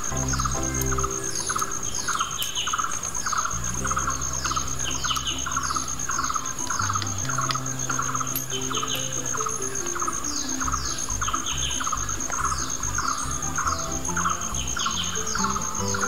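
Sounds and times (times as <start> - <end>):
birds chirping: 0.0 - 16.0
soft low sustained music: 0.0 - 16.0.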